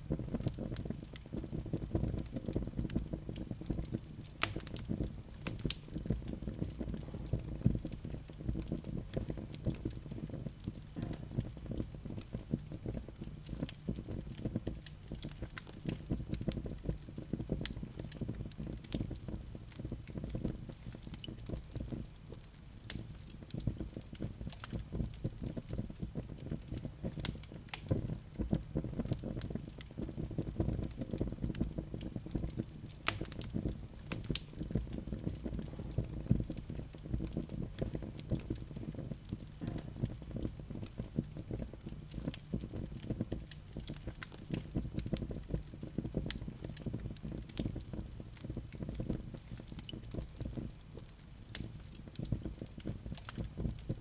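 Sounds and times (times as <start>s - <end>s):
logs crackling and popping: 0.1s - 54.0s.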